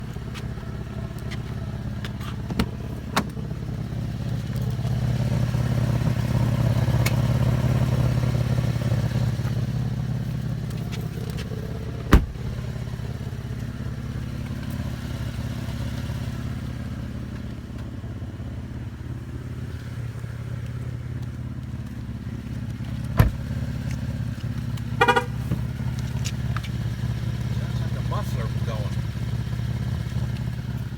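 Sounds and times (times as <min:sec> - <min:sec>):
car engine humming: 0:00.0 - 0:30.9.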